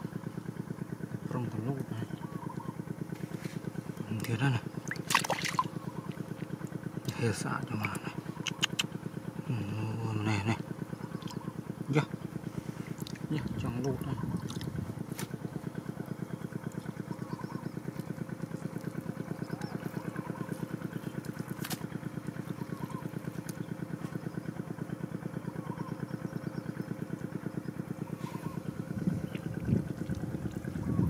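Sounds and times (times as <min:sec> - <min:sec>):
small engine idling: 0:00.0 - 0:31.0.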